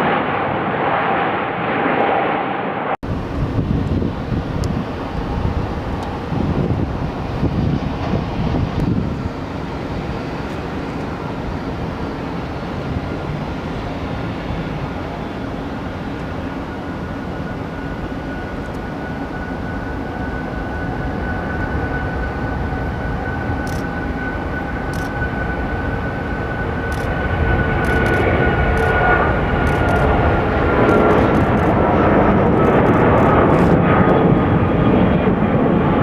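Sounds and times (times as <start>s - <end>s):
jet engines running: 0.0s - 36.0s
wind buffeting microphone: 3.0s - 19.4s, 20.1s - 36.0s.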